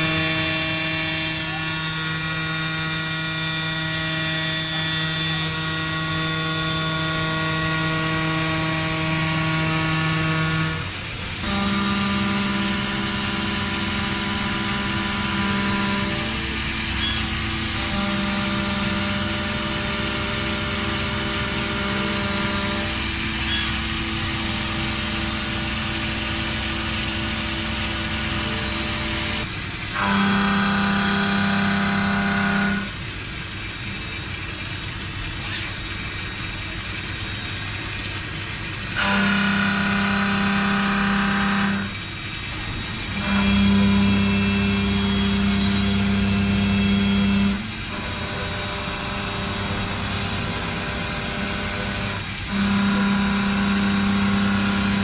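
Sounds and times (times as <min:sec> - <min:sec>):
machinery motor hum and whine: 0:00.0 - 0:55.0.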